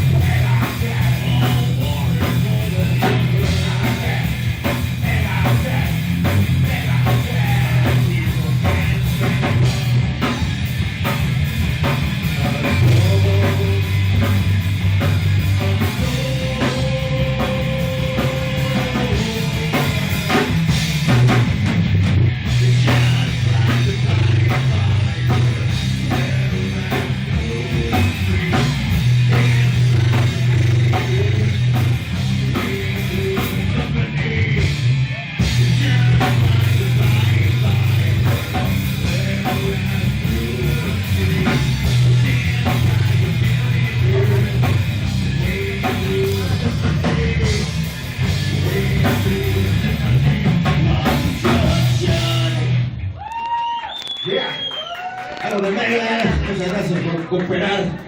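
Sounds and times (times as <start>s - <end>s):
drum kit beat: 0.0s - 53.0s
low bass line: 0.0s - 53.0s
heavy rock music: 0.0s - 53.2s.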